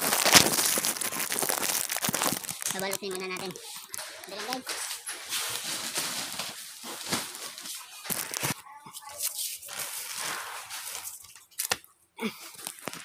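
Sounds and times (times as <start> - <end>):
plastic bag crinkling: 0.0 - 11.8, 12.5 - 13.0.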